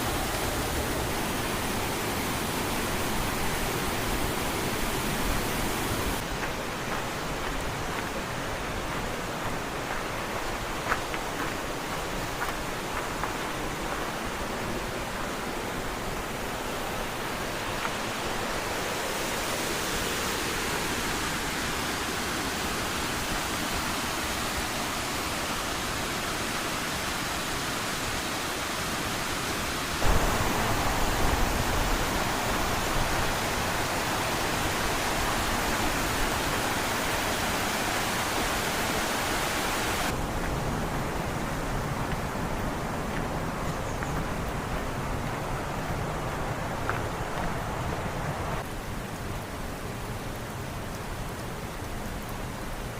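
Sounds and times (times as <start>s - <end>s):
waterfall rushing water: 0.0s - 52.9s.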